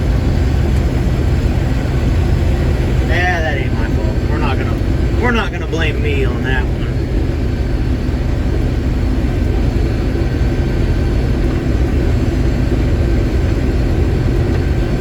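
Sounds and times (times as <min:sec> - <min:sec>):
combine harvester droning: 0:00.0 - 0:15.0.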